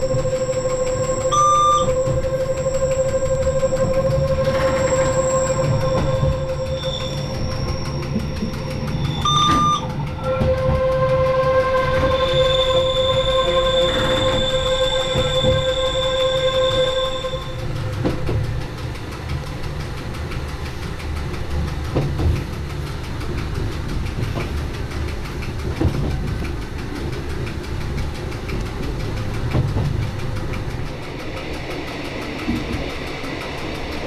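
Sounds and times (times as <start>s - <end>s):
steady whine: 0.0s - 34.0s
train running gear rumble: 0.0s - 34.0s
wheels clicking over rails: 0.0s - 34.0s.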